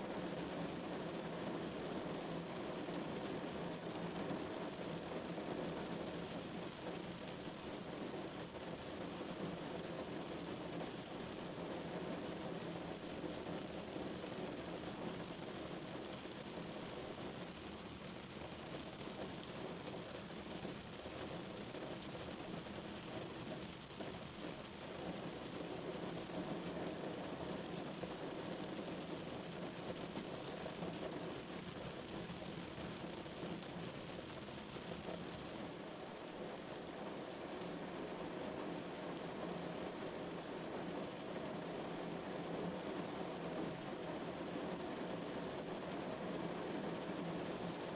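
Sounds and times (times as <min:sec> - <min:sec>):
rain falling on a car: 0:00.0 - 0:47.9.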